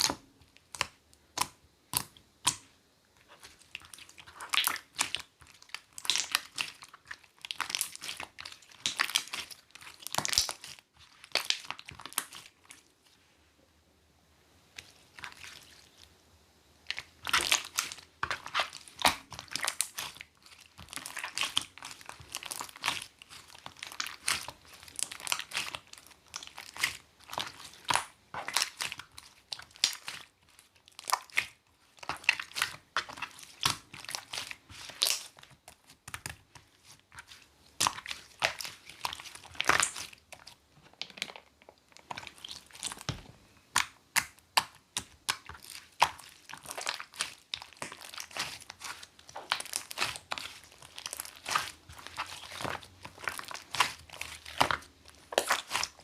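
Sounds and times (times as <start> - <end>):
slime crackling and popping: 3.3 - 12.7, 16.9 - 40.6, 42.0 - 56.0.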